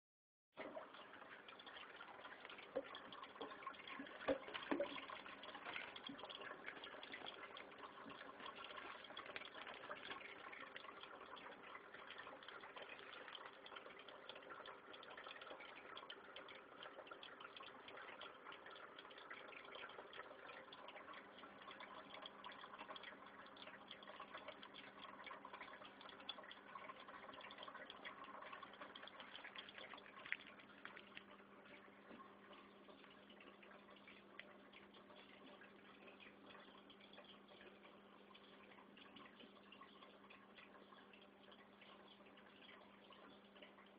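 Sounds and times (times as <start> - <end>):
water trickling in tank: 0.6 - 43.9.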